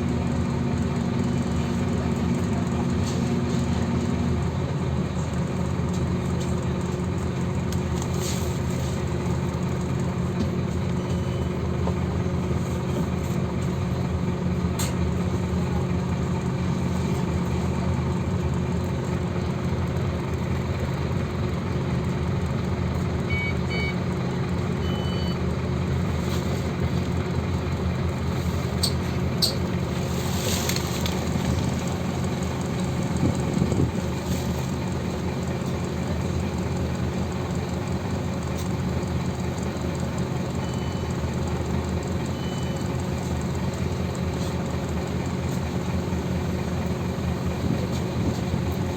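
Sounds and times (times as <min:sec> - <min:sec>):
bus engine humming: 0:00.0 - 0:48.9.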